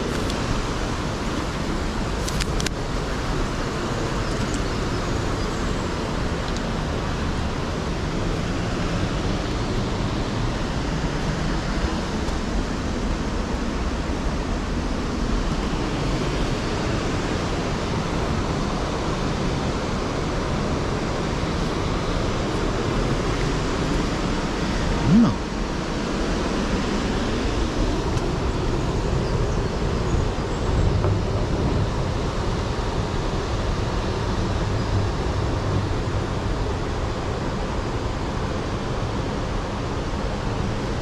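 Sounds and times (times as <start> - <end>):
low steady rushing noise: 0.0 - 41.0.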